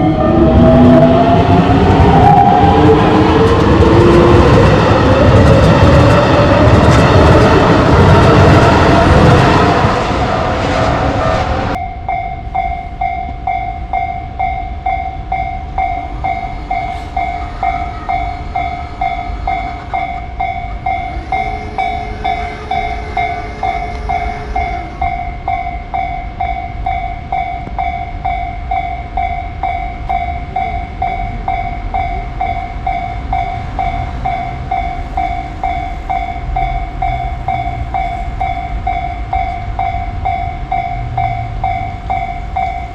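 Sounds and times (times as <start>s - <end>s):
level crossing warning bell: 0.0s - 42.9s
train passing loudly: 0.0s - 42.9s.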